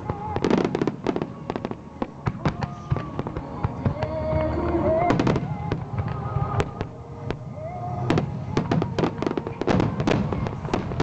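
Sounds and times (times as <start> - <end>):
fireworks bursting and crackling: 0.0 - 11.0
music with long held notes: 0.0 - 11.0.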